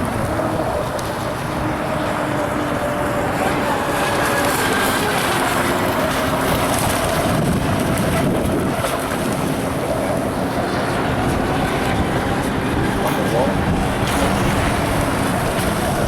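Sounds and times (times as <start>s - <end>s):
model boat motor whine: 0.0s - 16.0s
wind buffeting microphone: 0.0s - 16.0s.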